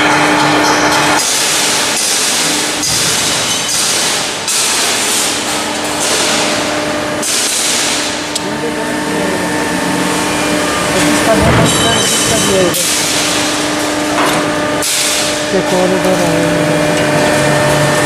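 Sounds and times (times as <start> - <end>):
workshop machinery hiss and hum: 0.0 - 18.0.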